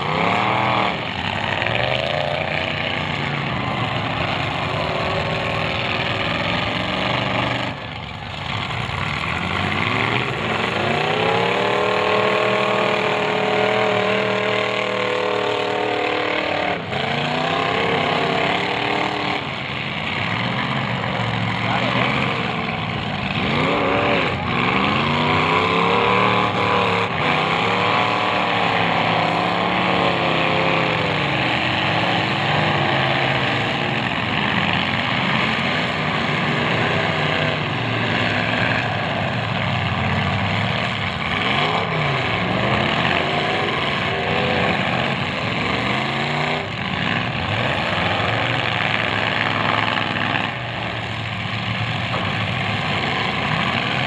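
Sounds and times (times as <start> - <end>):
car engines revving hard: 0.0 - 54.0.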